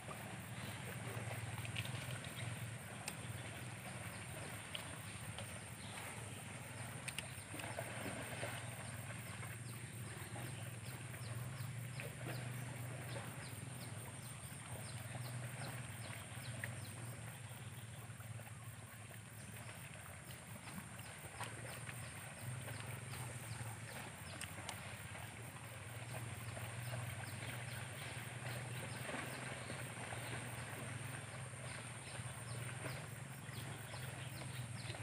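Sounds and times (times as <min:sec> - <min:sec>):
insects buzzing: 0:00.0 - 0:35.0.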